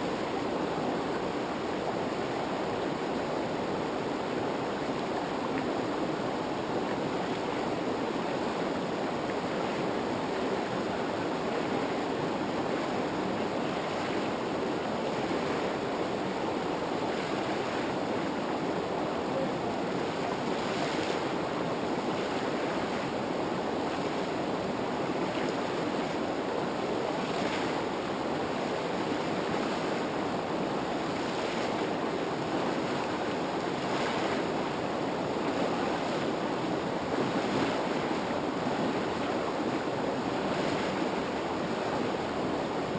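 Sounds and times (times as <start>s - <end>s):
river rapids rushing: 0.0s - 42.9s.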